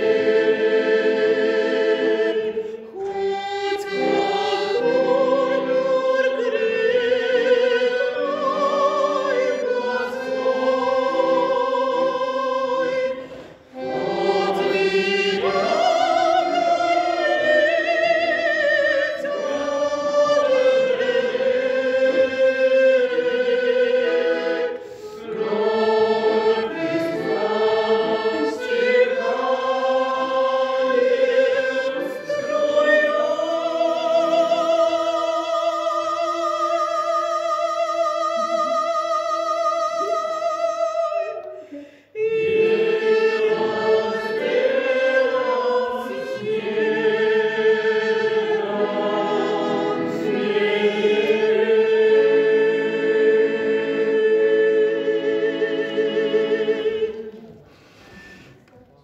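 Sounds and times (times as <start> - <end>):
accordion chords: 0.0 - 58.6
choir singing a hymn: 0.0 - 58.6.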